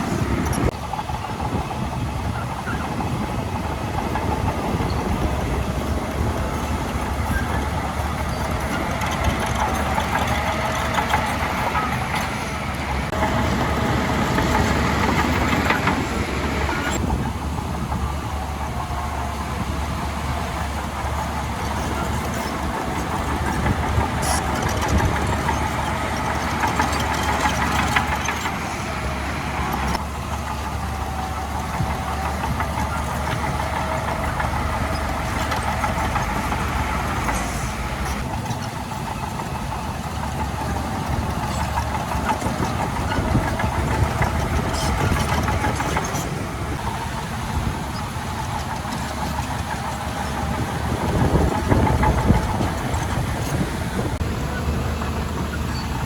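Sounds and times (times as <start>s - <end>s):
heavy machinery diesel engine running: 0.0s - 56.0s.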